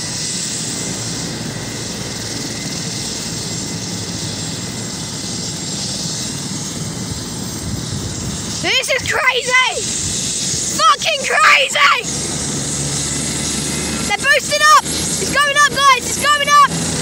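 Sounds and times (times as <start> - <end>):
helicopter rotors low rumble: 0.0 - 17.0
turbine hiss: 0.0 - 17.0.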